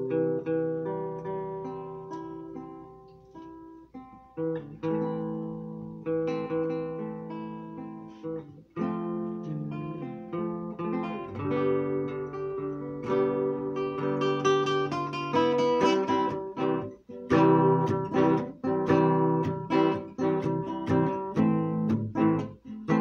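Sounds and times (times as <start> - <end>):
classical guitar fingerpicked: 0.0 - 23.0.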